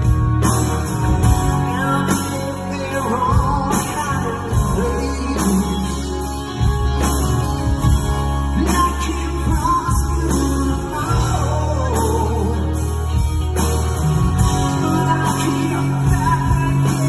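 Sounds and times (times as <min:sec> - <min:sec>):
live rock band playing: 0:00.0 - 0:17.0
man singing lead: 0:01.1 - 0:06.9, 0:07.8 - 0:17.0.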